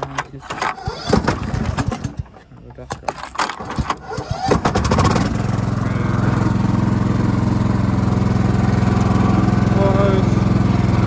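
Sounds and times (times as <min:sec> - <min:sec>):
mower engine cranking and running: 0:00.0 - 0:11.0.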